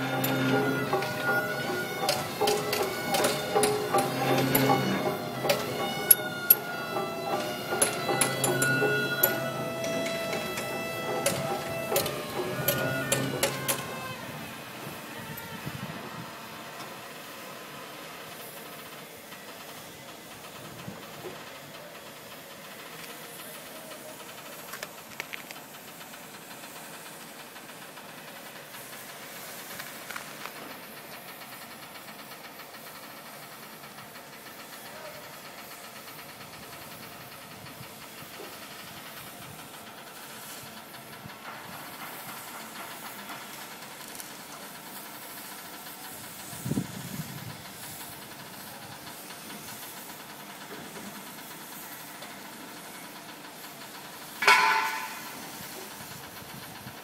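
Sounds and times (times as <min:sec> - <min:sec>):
hissing outdoor background noise: 0:00.0 - 0:57.0.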